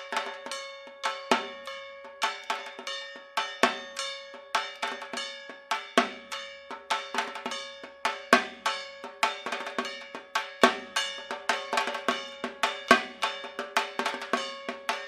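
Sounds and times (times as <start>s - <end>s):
drumming with sharp ringing strokes: 0.0s - 15.0s.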